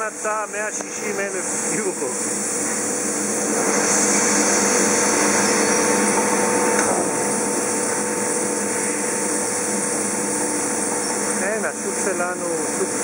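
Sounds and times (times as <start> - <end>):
machine hum with high hiss: 0.0 - 13.0.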